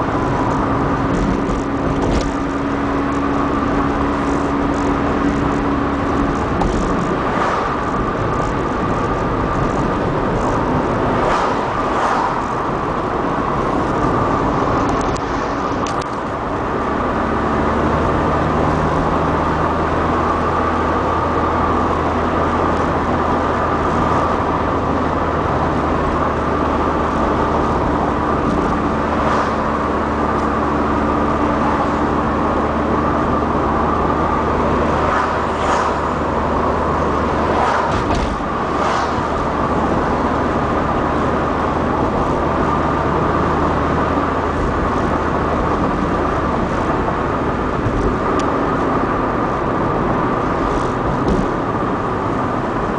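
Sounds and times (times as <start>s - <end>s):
tyre noise: 0.0s - 16.6s, 17.4s - 52.9s
car engine cruising: 0.0s - 52.9s.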